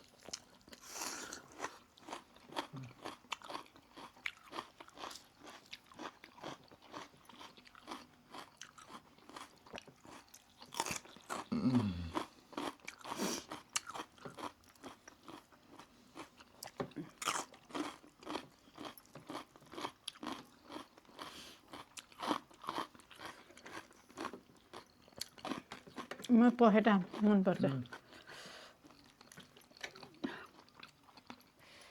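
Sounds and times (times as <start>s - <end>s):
chewing and crunching food: 0.0s - 31.9s.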